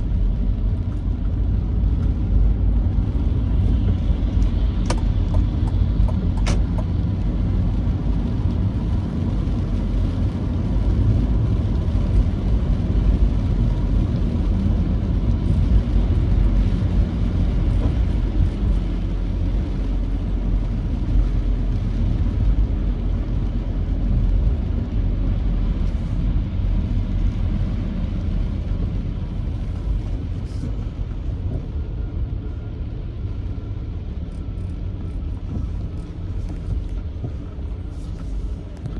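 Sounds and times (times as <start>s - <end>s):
vehicle on wet road rumble: 0.0s - 38.9s.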